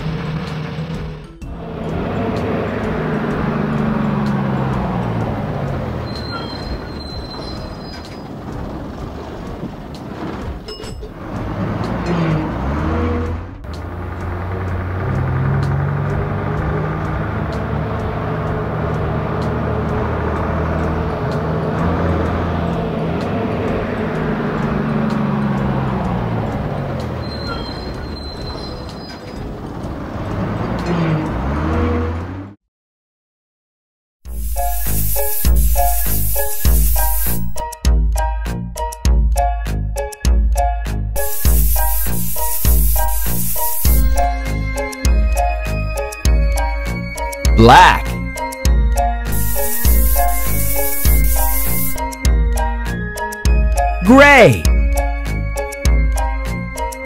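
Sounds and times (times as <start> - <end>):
bus engine humming: 0.0 - 32.6, 34.3 - 37.6, 41.2 - 48.5, 49.3 - 52.2, 54.0 - 54.6.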